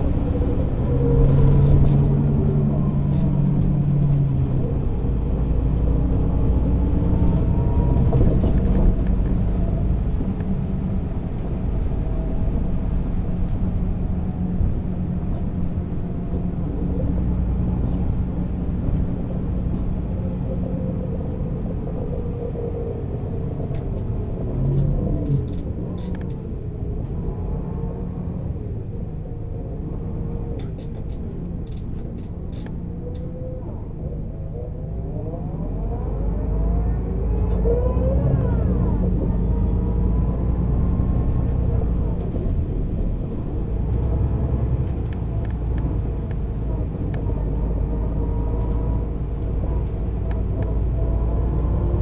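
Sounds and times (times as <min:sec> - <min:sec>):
bus diesel engine rumbling: 0:00.0 - 0:52.0.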